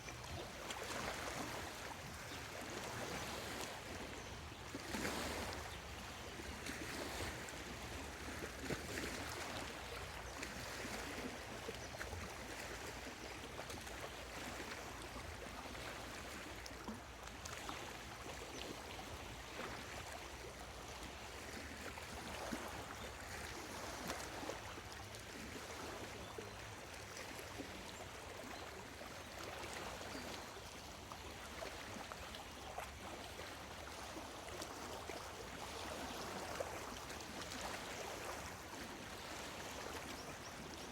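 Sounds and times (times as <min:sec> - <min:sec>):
lake waves lapping at shore: 0:00.0 - 0:40.9.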